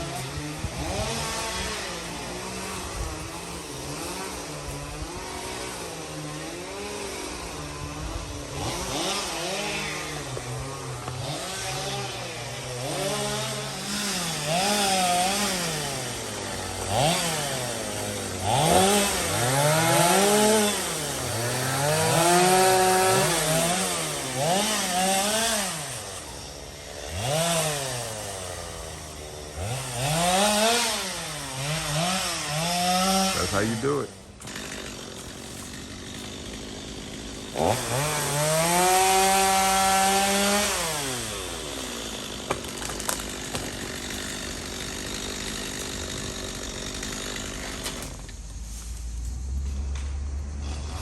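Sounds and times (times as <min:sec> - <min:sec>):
chainsaw revving while cutting wood: 0:00.0 - 0:48.5, 0:49.2 - 0:51.0.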